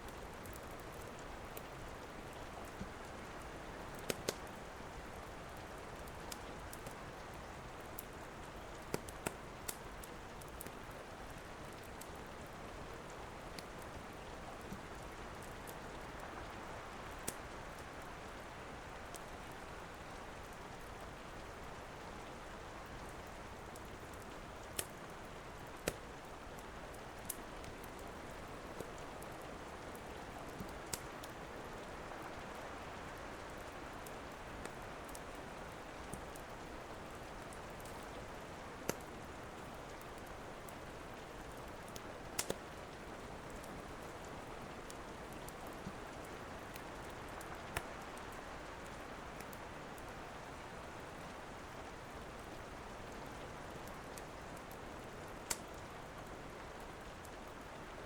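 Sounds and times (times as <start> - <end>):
wood fire crackling: 0.0 - 57.9
steady rain: 0.0 - 58.0.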